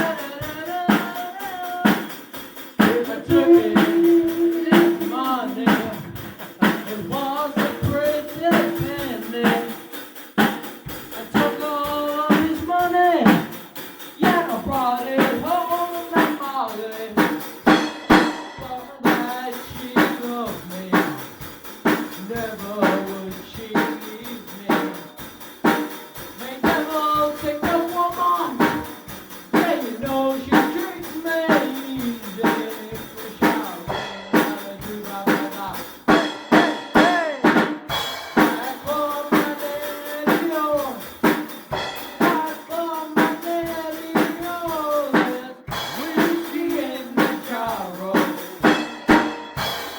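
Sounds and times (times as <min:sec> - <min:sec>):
drum kit playing fast beat: 0:00.0 - 0:49.9.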